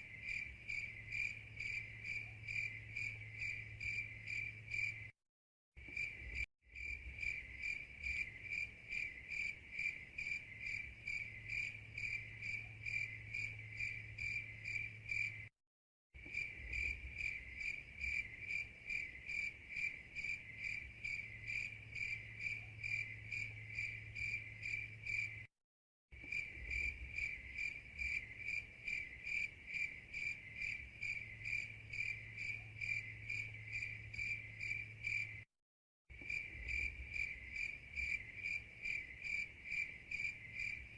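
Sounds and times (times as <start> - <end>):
crickets chirping: 0.0 - 5.1, 5.8 - 15.5, 16.2 - 25.5, 26.2 - 35.5, 36.1 - 40.9.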